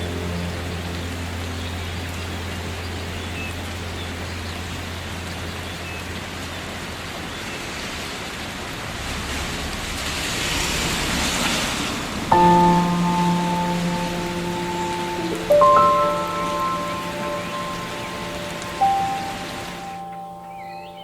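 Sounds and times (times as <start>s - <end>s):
low hum: 0.0s - 7.0s, 8.6s - 21.0s
steady rain hiss: 0.0s - 21.0s.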